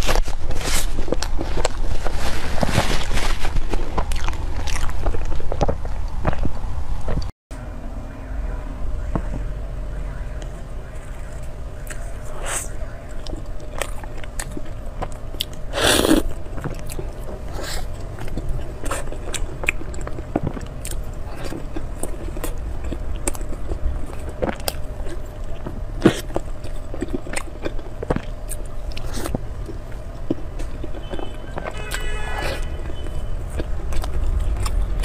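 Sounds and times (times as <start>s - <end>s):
biting and chewing: 0.0s - 7.3s, 10.4s - 35.0s.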